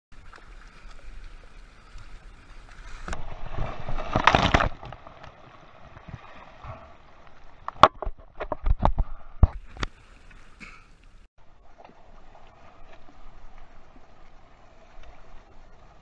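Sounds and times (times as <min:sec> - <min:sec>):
water lapping at a hull: 0:00.1 - 0:16.0.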